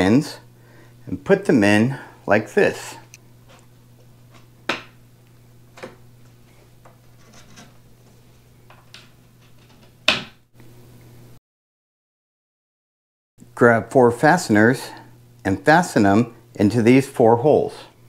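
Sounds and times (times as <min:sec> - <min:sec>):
faint steady hum: 0:00.0 - 0:11.4, 0:13.4 - 0:18.0.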